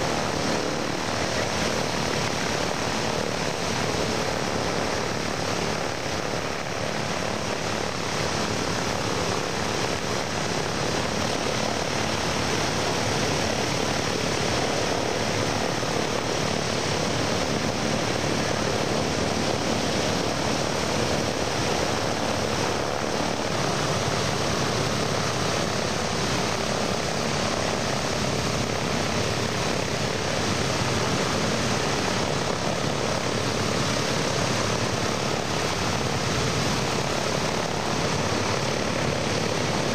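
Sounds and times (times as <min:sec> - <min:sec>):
bomber piston engines and propellers: 0:00.0 - 0:39.9.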